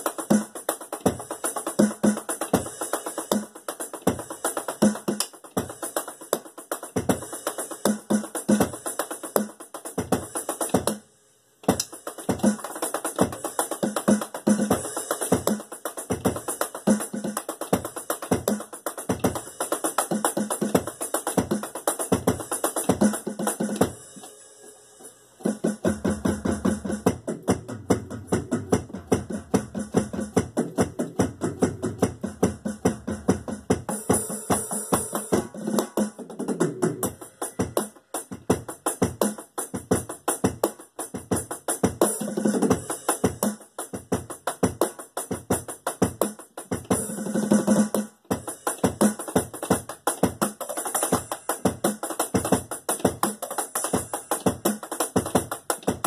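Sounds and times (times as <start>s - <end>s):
electronic drum kit playing: 0.0s - 56.0s.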